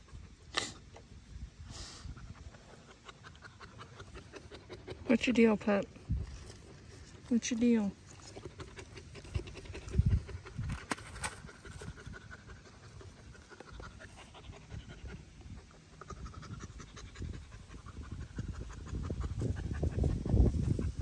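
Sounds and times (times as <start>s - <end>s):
dog panting rapidly: 1.8s - 21.0s.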